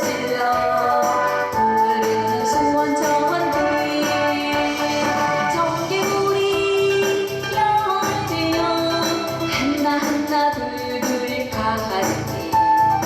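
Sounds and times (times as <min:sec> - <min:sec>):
instrumental backing with steady beat: 0:00.0 - 0:13.0
woman singing: 0:00.0 - 0:13.0.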